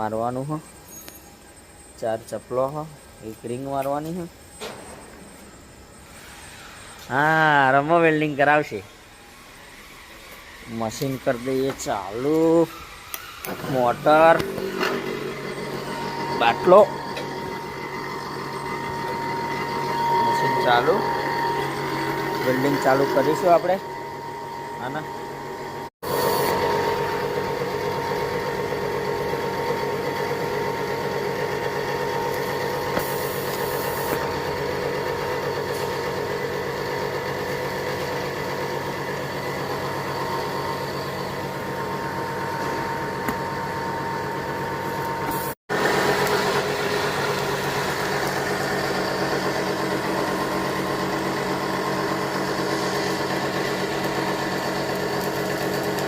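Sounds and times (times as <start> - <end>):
welding equipment humming: 8.9 - 56.0.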